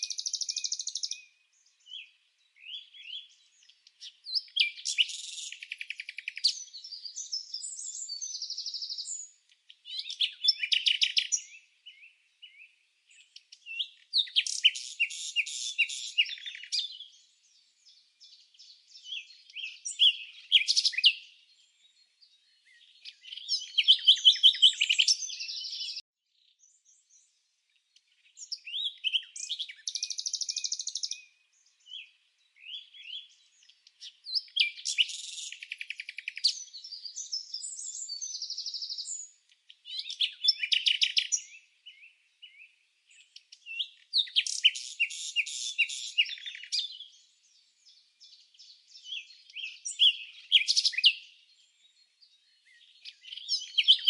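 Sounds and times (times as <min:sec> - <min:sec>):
songbird chirping and trilling: 0:00.0 - 0:54.0.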